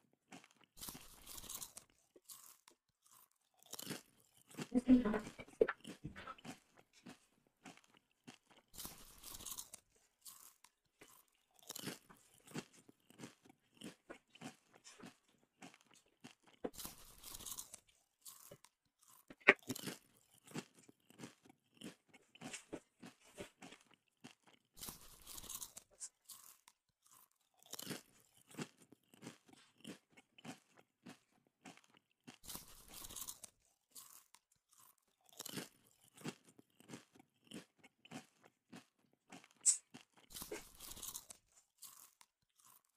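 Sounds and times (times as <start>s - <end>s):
chewing with crunches: 0.0s - 42.9s.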